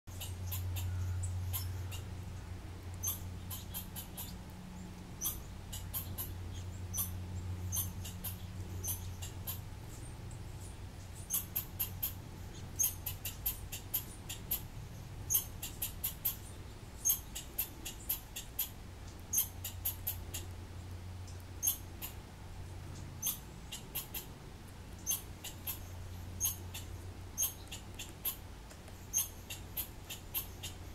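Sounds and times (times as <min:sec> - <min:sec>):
small animal chipping and squeaking: 0:00.1 - 0:02.1, 0:02.9 - 0:04.5, 0:05.2 - 0:09.7, 0:11.1 - 0:20.5, 0:21.6 - 0:22.2, 0:23.2 - 0:24.3, 0:25.0 - 0:30.9
steady low hum: 0:00.1 - 0:30.9.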